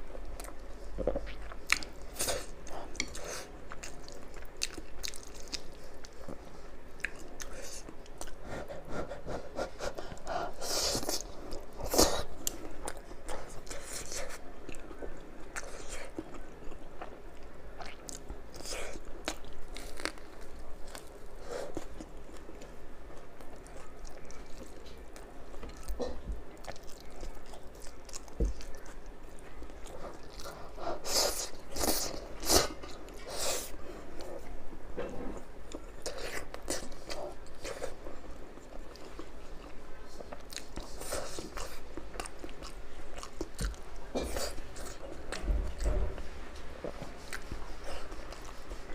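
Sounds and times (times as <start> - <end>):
person chewing crunchy food: 0.2 - 34.5, 35.6 - 46.0.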